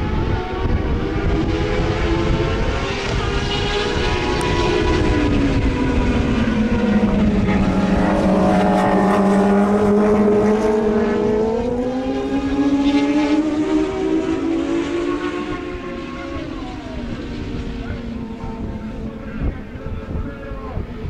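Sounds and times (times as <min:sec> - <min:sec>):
racing motorcycle engines: 0:00.0 - 0:21.0.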